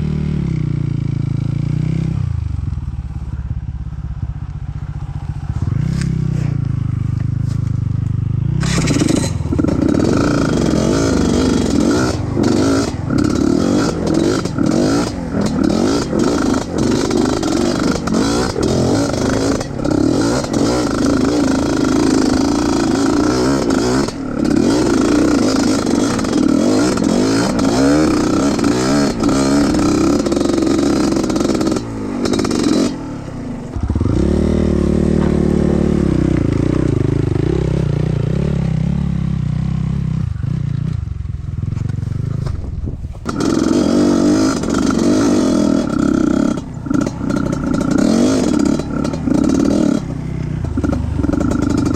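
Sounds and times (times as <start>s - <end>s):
motorcycle engine throttling: 0.0s - 51.9s.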